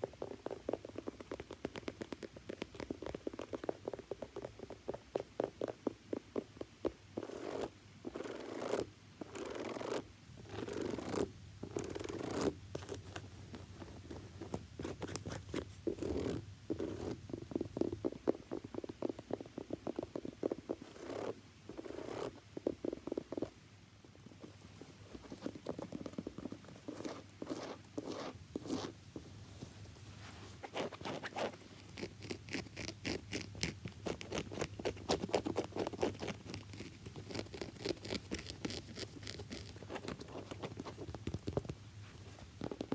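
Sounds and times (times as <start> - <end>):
scratchy strokes on a shoe: 7.2 - 23.5, 24.5 - 42.9.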